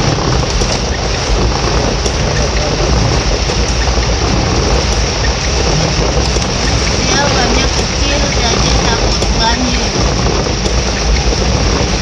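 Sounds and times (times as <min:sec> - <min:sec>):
heavy rain pouring: 0:00.0 - 0:12.0
low rumble: 0:00.0 - 0:12.0.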